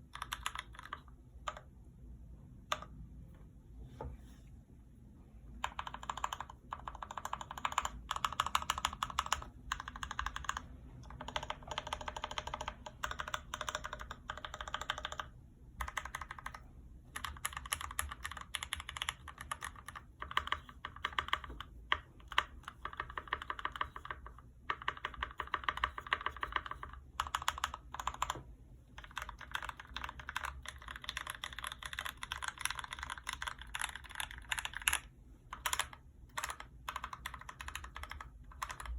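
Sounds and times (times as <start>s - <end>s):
mechanical keyboard typing: 0.0s - 1.7s, 2.7s - 2.9s, 5.6s - 38.9s.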